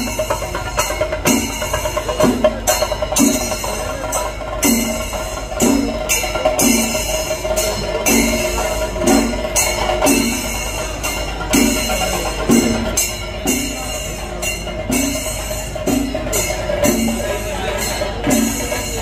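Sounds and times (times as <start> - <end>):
drums and cymbals rhythm: 0.0 - 19.0.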